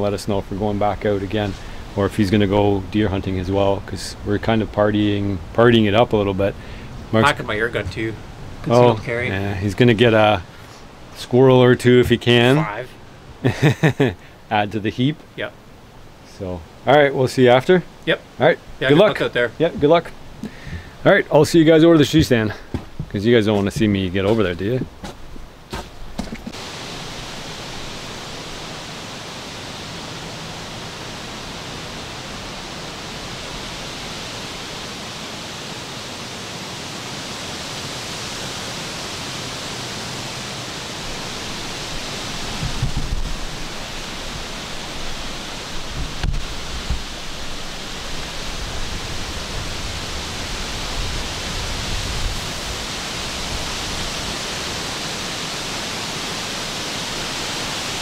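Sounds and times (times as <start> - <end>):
forest ambience hiss: 0.0 - 58.0.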